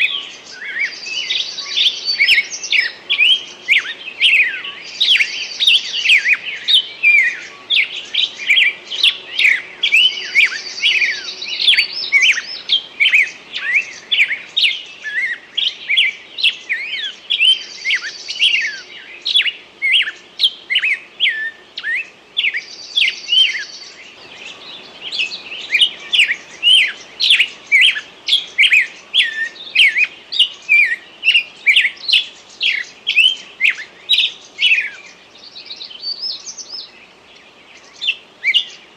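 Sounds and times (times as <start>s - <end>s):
songbirds quick downward chirps: 0.0s - 38.9s.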